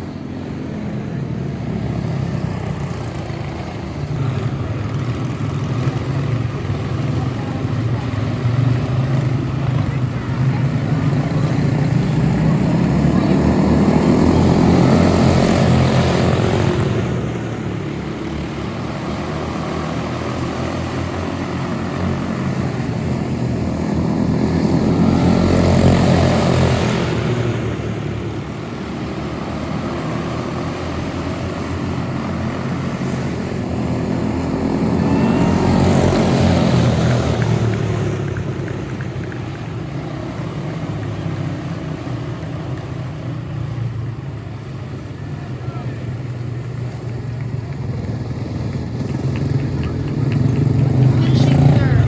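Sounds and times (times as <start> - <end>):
race car engines passing: 0.0 - 52.0.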